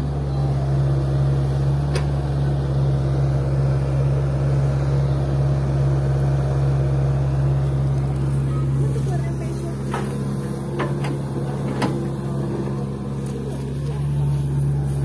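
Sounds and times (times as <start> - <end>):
diesel engines droning: 0.0 - 15.0.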